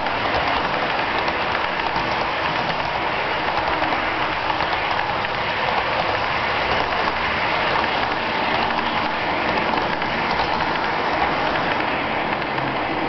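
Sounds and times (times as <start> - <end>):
model train cars rattling on track: 0.0 - 13.0.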